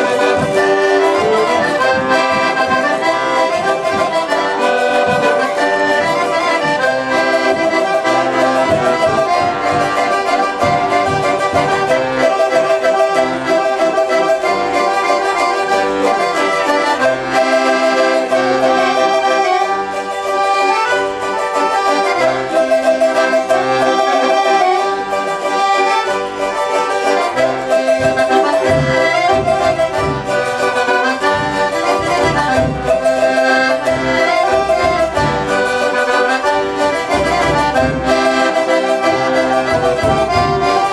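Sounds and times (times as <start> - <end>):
accordion folk tune: 0.0 - 40.9.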